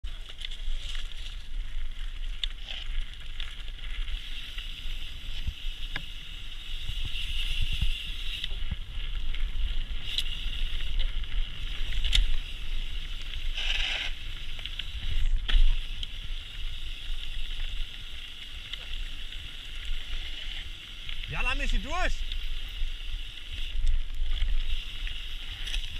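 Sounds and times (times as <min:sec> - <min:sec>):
bike tyres rolling on gravel: 0:00.0 - 0:25.9.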